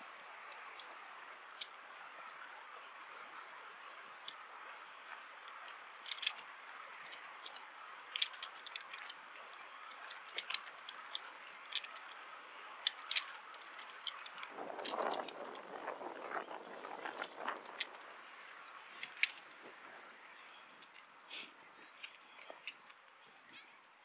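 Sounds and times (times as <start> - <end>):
bicycle rattling and clicking: 0.0 - 23.0
riding noise hiss: 0.0 - 24.0.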